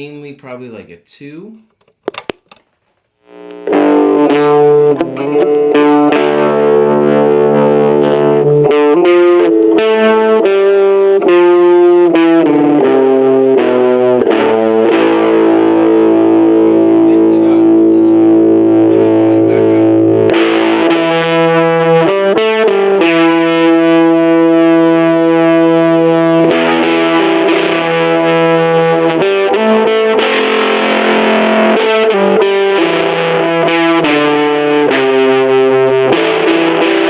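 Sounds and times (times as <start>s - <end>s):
fuzz distorted electric guitar: 3.1s - 37.0s.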